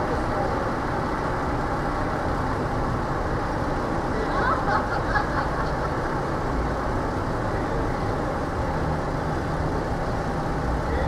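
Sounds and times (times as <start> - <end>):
low engine hum: 0.0 - 11.0
passing cars: 0.0 - 11.0.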